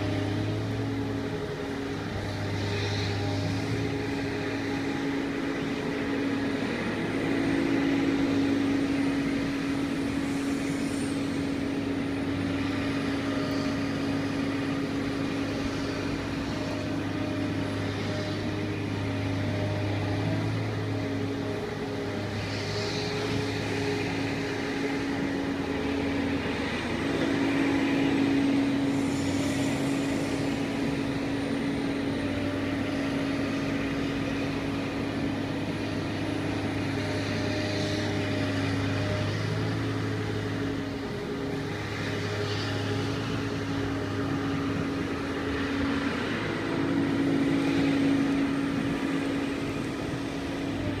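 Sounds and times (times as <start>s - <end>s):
material handler machine drone: 0.0s - 51.0s.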